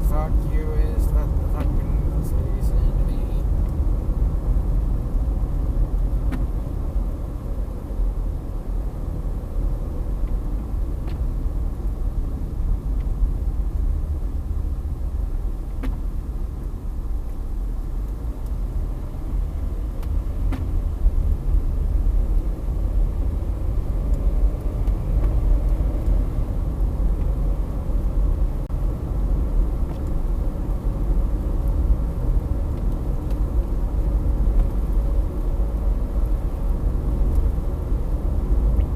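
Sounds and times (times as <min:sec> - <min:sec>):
car interior road and engine noise: 0:00.0 - 0:38.9.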